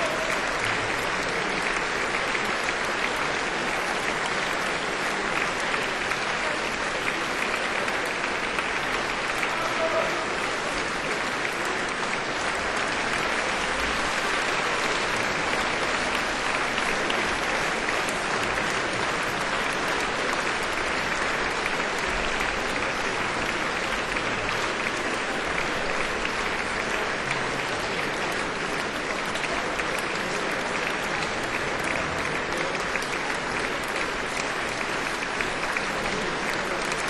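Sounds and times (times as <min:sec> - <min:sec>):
audience applauding: 0:00.0 - 0:37.0.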